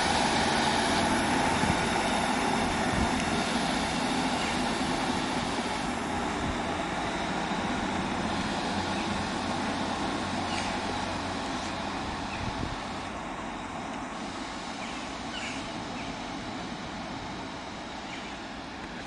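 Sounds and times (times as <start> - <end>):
diesel train engine: 0.0 - 19.0
train wheels on rails: 0.0 - 19.0.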